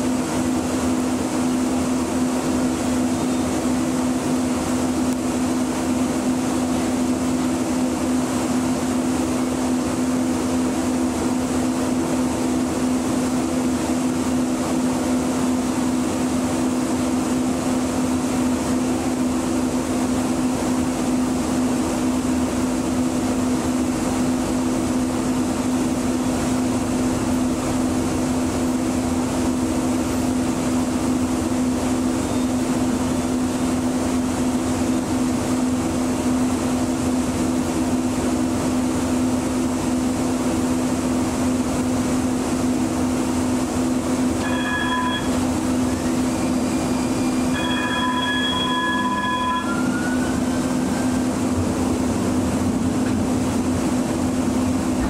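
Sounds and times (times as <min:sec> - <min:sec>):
light rail equipment hum: 0:00.0 - 0:55.0.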